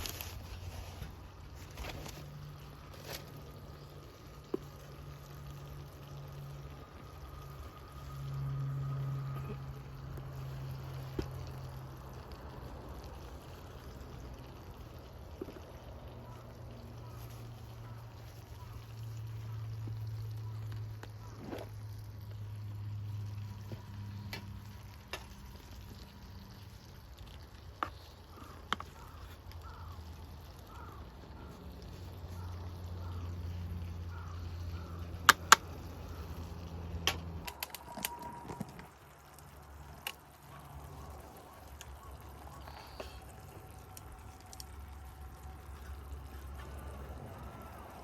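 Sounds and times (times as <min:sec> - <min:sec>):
wood fire crackling and popping: 0:00.0 - 0:47.4
low steady hum: 0:00.0 - 0:48.0.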